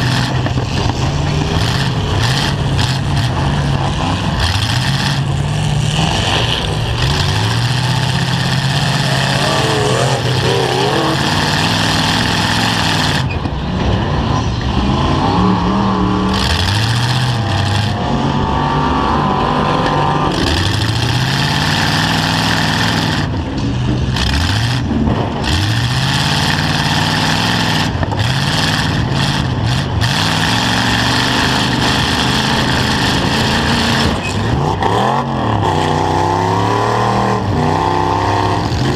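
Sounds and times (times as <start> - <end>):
high engine whines: 0.0 - 38.9
truck engines revving: 0.0 - 38.9.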